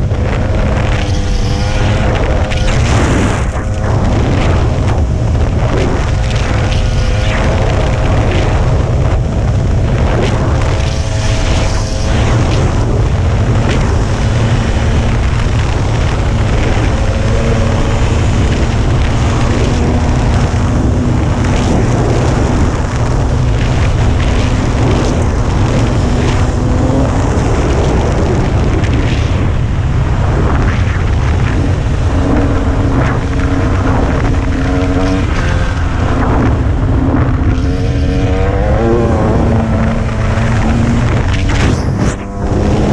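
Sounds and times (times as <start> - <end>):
dirt bike engine revving: 0.0 - 29.2, 31.2 - 42.9.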